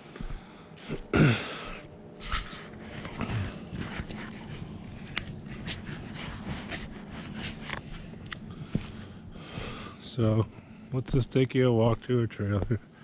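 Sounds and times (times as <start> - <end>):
footsteps: 0.0 - 12.9.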